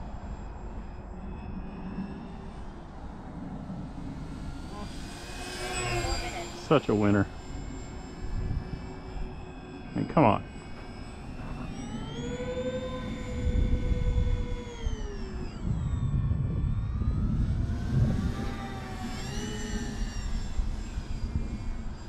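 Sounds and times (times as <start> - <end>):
electric motors and propellers whining: 0.0 - 22.0.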